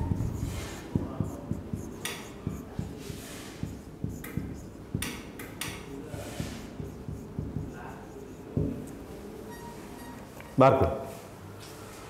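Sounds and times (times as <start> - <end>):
marker writing on whiteboard: 0.0 - 10.6.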